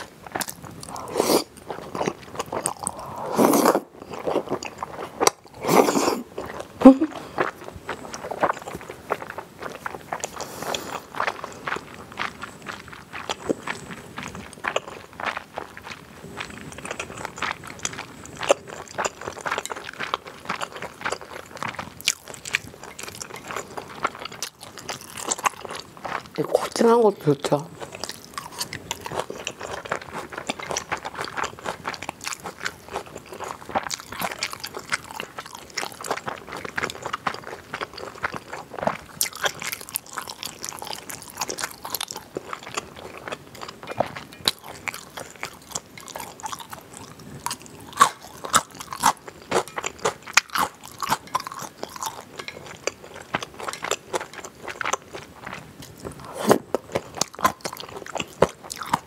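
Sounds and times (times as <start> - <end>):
crunchy chewing: 0.0 - 26.8, 27.7 - 59.0.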